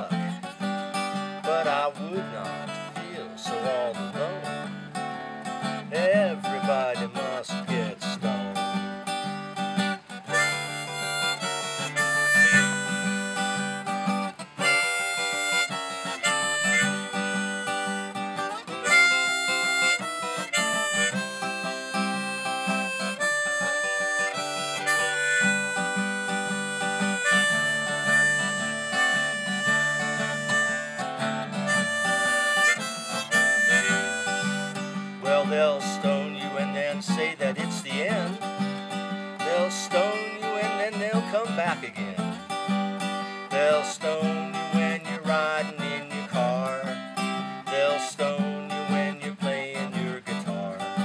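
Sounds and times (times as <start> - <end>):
harmonica long held notes: 0.0 - 51.0
strummed acoustic guitar: 0.0 - 51.0.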